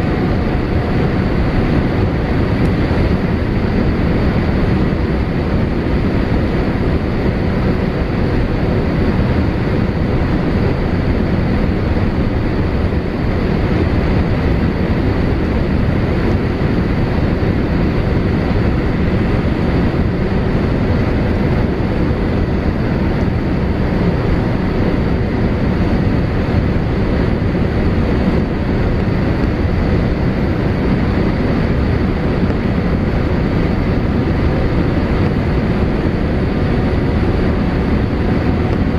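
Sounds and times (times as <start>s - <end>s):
aircraft cabin roar: 0.0s - 38.9s
faint steady whine: 0.0s - 38.9s.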